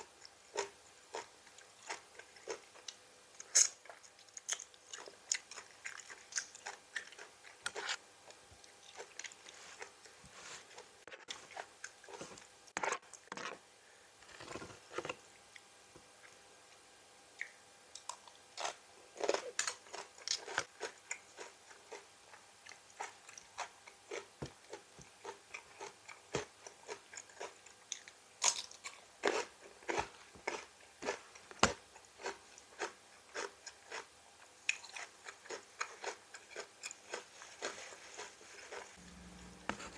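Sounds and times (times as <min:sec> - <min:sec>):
person chewing crunchy food: 0:00.6 - 0:13.6, 0:17.4 - 0:39.9.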